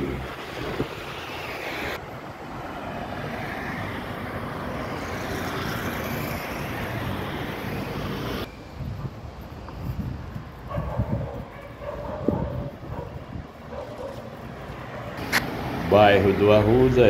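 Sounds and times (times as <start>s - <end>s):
low traffic rumble: 0.0s - 17.0s
road traffic passing: 0.0s - 17.0s.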